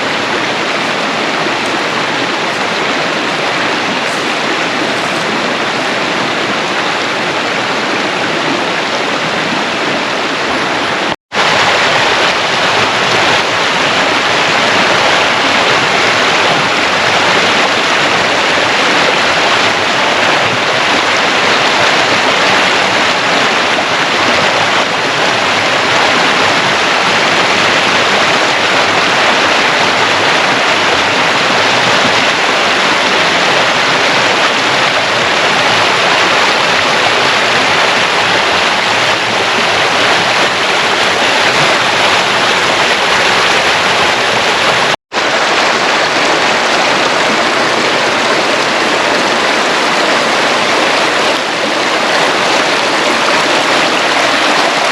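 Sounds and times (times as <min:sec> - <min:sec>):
water rushing over rocks: 0:00.0 - 0:54.9.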